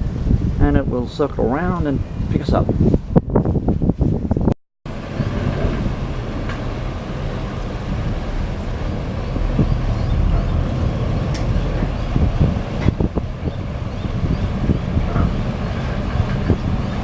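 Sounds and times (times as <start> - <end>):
ferry engines rumbling: 0.0 - 17.0
wind on microphone: 0.0 - 17.0.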